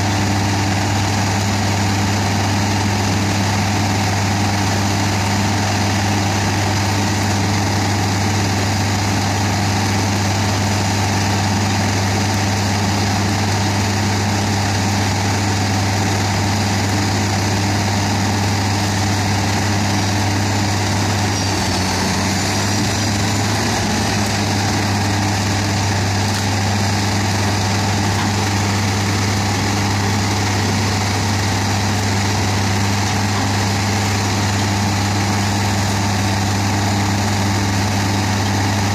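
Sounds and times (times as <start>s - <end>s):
shredder diesel engine droning: 0.0s - 38.9s.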